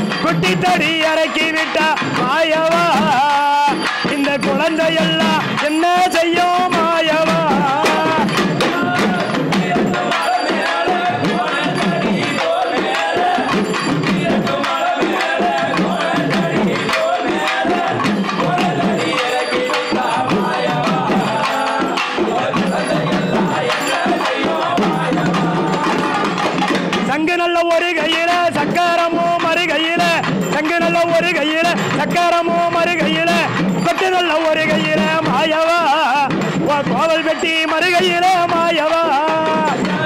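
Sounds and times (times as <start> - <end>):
percussion clatter: 0.0 - 40.0.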